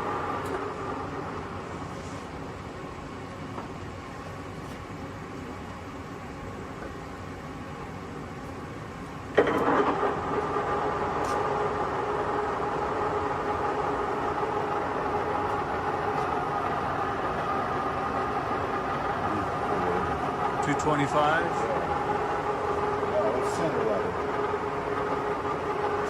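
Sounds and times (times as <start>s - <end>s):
lathe running with gear whine: 0.0s - 26.0s.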